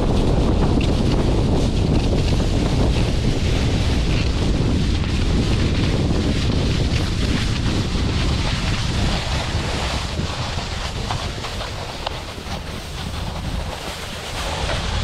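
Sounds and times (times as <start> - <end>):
wind buffeting microphone: 0.0 - 15.0
snowboard hissing on snow: 1.2 - 15.0.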